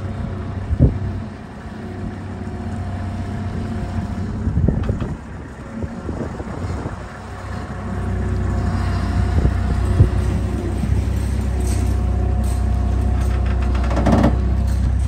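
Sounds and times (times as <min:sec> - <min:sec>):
clunks and rattles of load: 0:00.0 - 0:15.0
loader engine running: 0:00.0 - 0:15.0.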